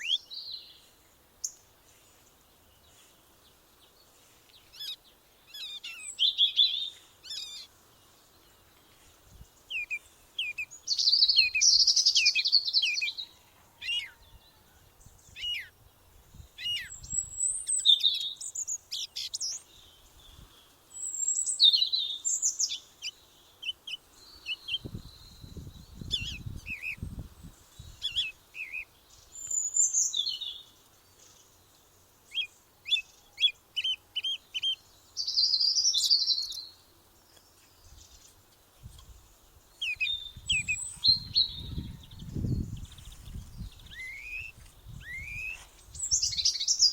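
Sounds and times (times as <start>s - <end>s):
songbirds singing and chirping: 0.0s - 46.9s.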